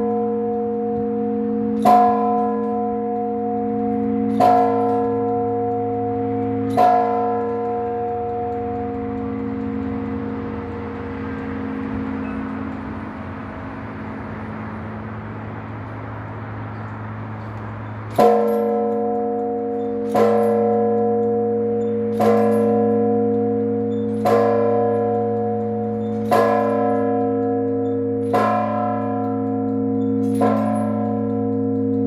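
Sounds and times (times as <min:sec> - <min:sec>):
church bell ringing: 0:00.0 - 0:32.0.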